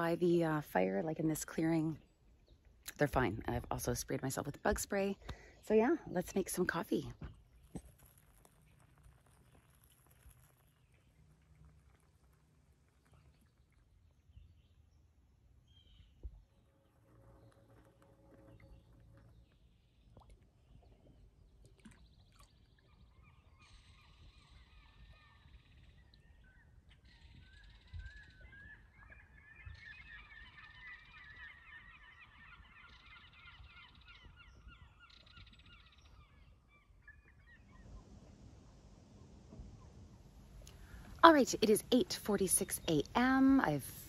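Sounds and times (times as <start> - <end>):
faint repeated bird calls: 0.0 - 44.0.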